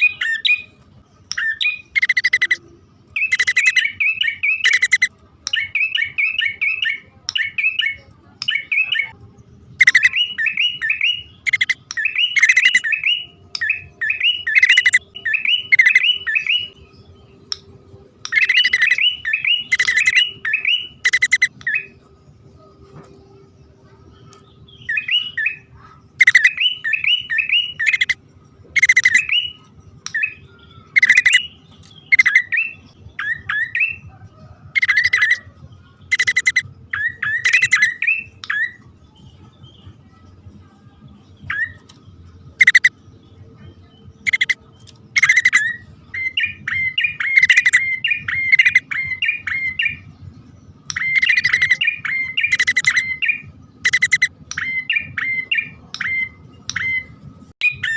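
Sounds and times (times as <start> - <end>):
bird sharp chirps: 0.0 - 22.0, 24.3 - 35.4, 36.1 - 39.8, 41.4 - 43.0, 43.8 - 50.1, 50.8 - 57.9.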